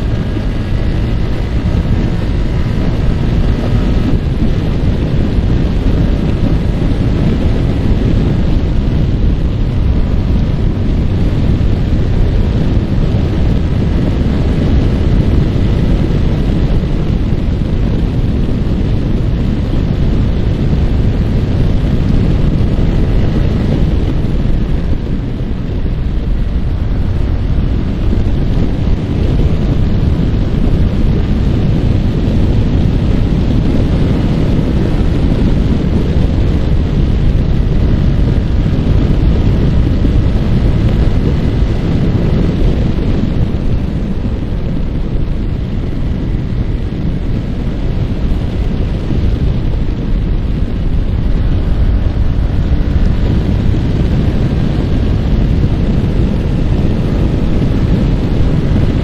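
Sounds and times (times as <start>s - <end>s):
motorcycle engine droning: 0.0s - 59.0s
wind buffeting microphone: 0.0s - 59.0s.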